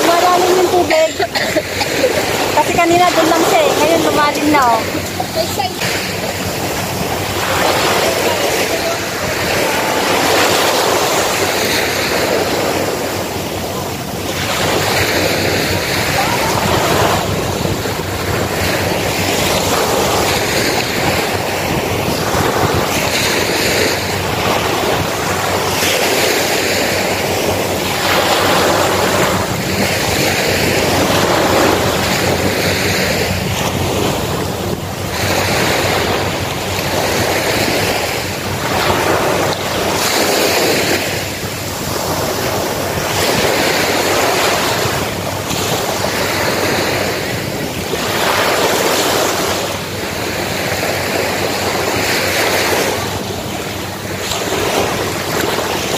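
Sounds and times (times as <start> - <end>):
small waves breaking on beach: 0.0 - 55.9
wind buffeting microphone: 0.0 - 55.9.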